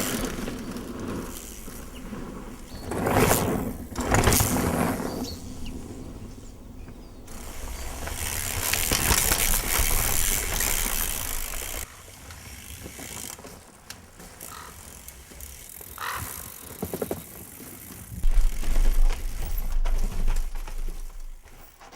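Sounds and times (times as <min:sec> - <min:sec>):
bike drivetrain clicking and rattling: 0:00.0 - 0:21.9
bike tyres rushing on trail: 0:00.0 - 0:21.9.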